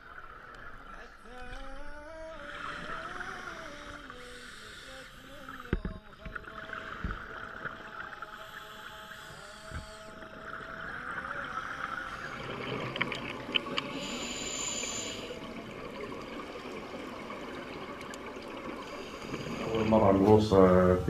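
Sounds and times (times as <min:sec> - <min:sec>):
underwater water noise: 0:00.0 - 0:21.0.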